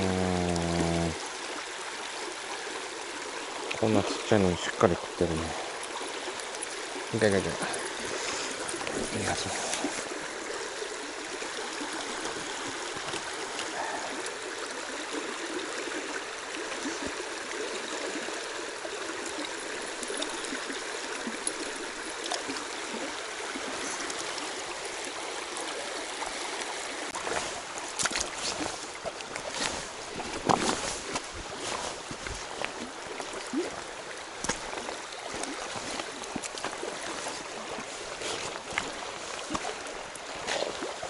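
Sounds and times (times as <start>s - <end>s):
stream rushing over stones: 0.0s - 41.0s.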